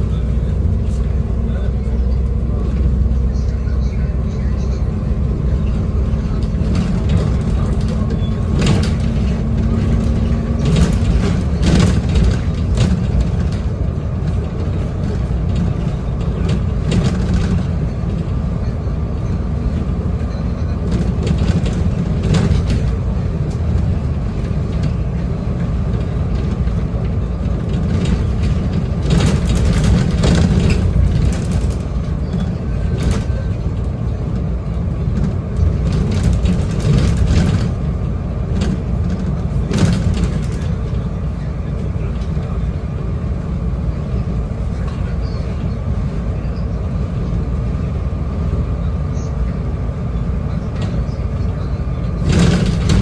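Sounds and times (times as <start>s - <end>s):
bus engine and tyres droning: 0.0s - 53.0s.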